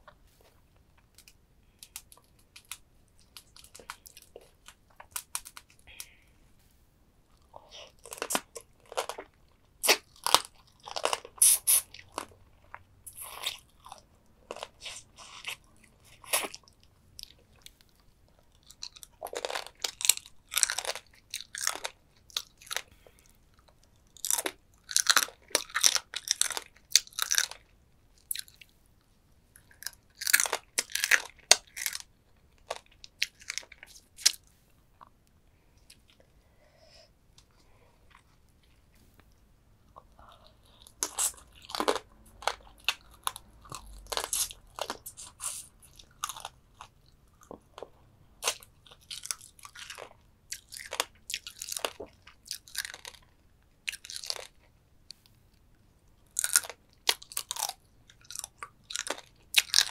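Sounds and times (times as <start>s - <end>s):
crunching and chewing crab: 0.0s - 6.3s, 7.3s - 28.7s, 29.5s - 36.2s, 39.8s - 59.9s.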